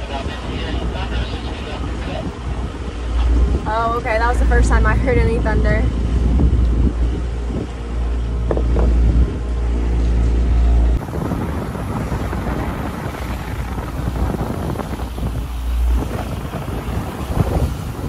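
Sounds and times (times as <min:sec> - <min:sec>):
water rushing along a hull: 0:00.0 - 0:18.0
wind buffeting the microphone: 0:00.0 - 0:18.0.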